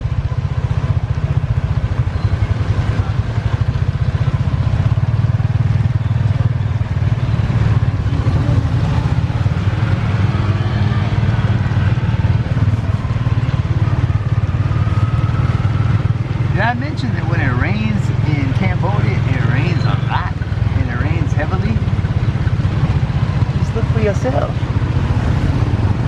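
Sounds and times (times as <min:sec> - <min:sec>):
small motorcycle engine running: 0:00.0 - 0:26.0.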